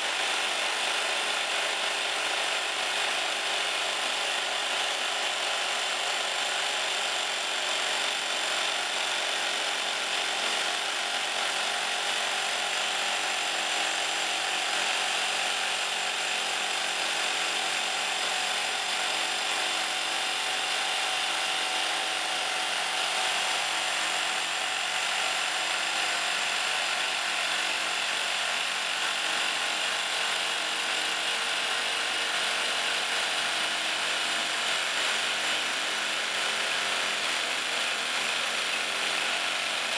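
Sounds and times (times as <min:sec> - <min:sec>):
hydraulic rock drills drilling: 0:00.0 - 0:39.9.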